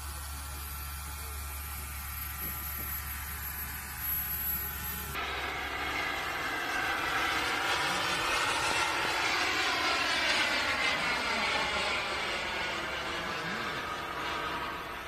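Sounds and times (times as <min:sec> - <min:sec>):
model jet turbine whine: 0:00.0 - 0:15.0.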